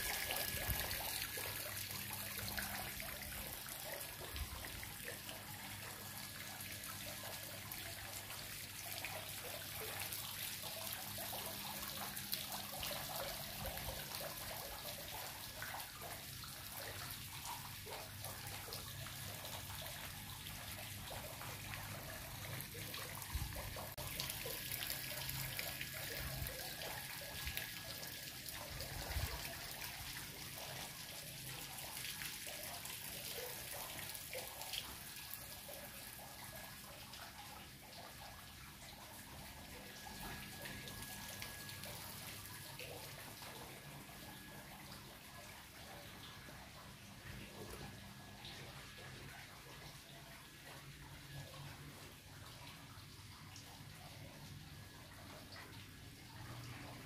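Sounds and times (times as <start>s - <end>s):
water trickling into a pool: 0.0s - 57.0s.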